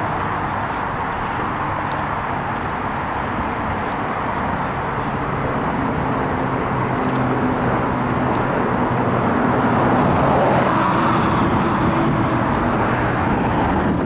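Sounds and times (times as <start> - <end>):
broad road rush: 0.0 - 14.0
low engine hum: 0.0 - 14.0.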